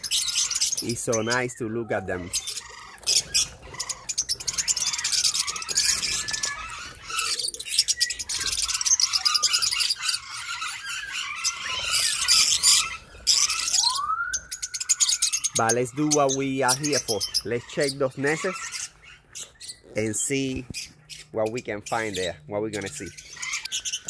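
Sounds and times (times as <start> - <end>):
flock of birds chattering: 0.0 - 24.0.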